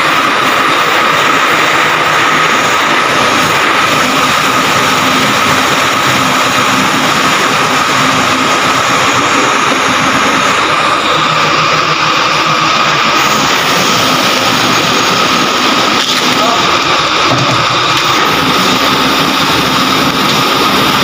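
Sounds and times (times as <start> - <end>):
crane hoist whine and hum: 0.0 - 21.0.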